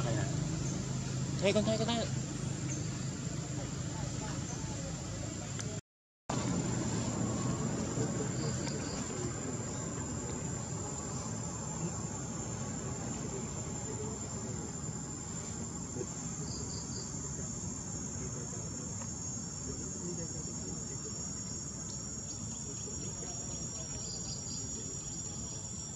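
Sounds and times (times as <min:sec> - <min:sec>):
insects calling: 0:00.0 - 0:05.4, 0:06.3 - 0:25.9.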